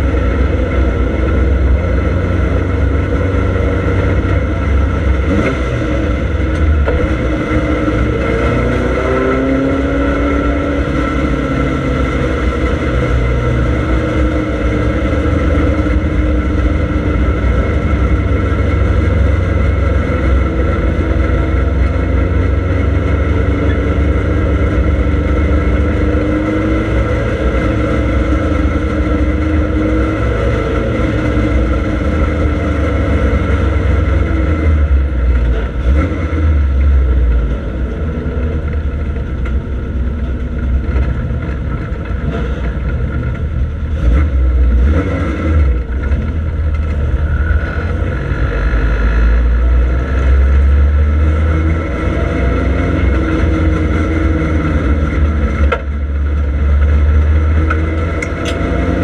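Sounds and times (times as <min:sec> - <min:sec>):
car engine droning from cabin: 0:00.0 - 0:59.0.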